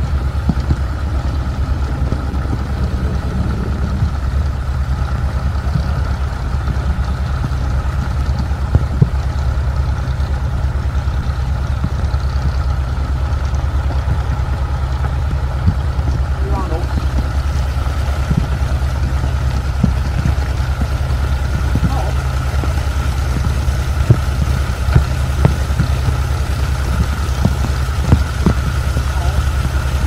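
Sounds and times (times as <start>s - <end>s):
faint steady whine: 0.0s - 30.0s
heavy machinery engine running: 0.0s - 30.0s.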